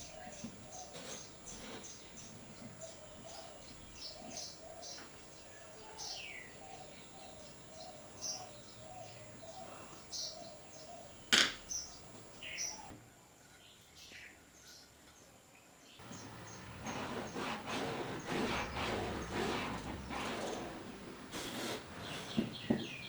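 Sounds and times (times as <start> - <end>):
birds chirping: 0.0 - 12.9, 15.9 - 23.0.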